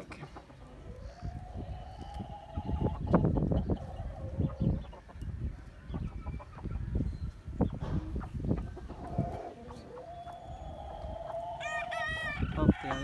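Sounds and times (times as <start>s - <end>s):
chicken clucking: 0.0s - 13.0s.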